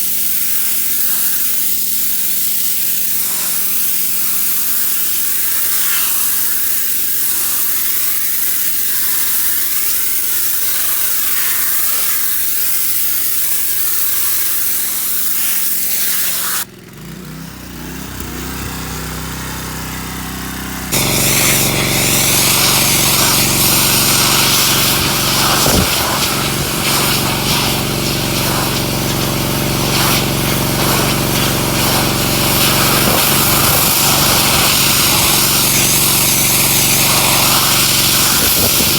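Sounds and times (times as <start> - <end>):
pressure washer spray hissing: 0.0 - 16.7, 20.9 - 38.9
pressure washer engine running: 0.0 - 38.9.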